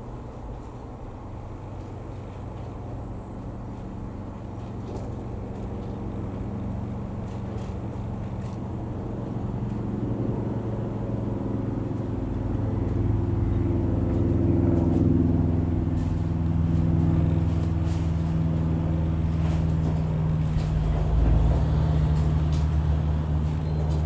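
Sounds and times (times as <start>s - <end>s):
light aircraft engine droning: 0.0s - 24.0s.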